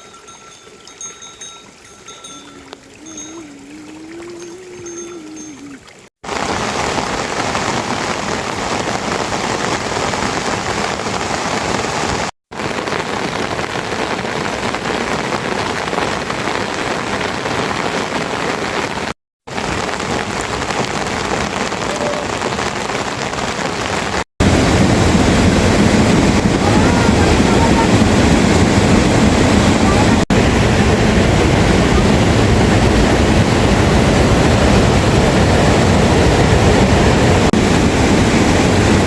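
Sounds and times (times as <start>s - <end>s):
heavy rain hissing: 6.3s - 39.0s.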